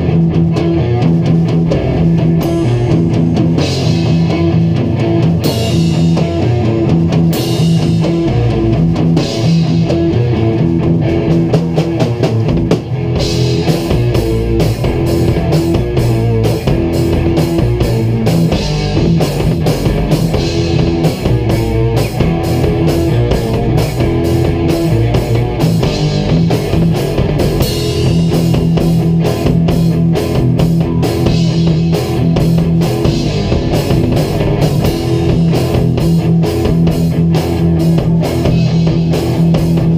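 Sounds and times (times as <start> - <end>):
drum kit beat: 0.0 - 39.9
electric guitars playing rock: 0.0 - 39.9.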